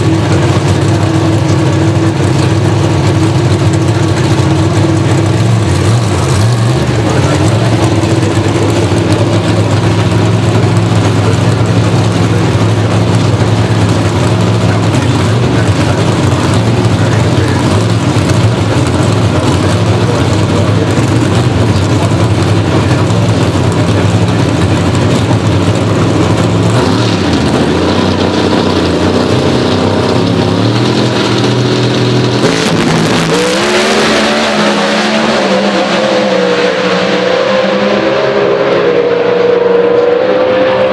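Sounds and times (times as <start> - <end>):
drag car engines at high revs: 0.0 - 40.9.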